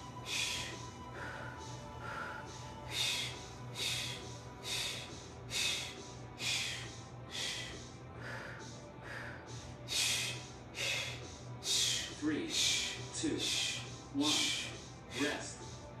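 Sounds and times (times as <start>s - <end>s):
faint background music: 0.0s - 16.0s.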